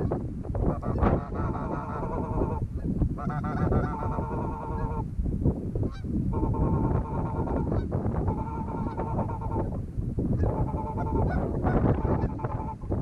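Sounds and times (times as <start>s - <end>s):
wind rumble on microphone: 0.0s - 13.0s
goose calls clucking and honking: 0.7s - 5.0s, 5.9s - 9.7s, 10.4s - 13.0s.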